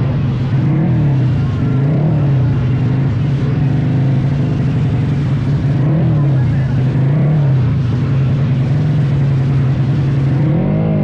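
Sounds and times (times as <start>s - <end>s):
motorcycle engine running loudly: 0.0s - 11.0s.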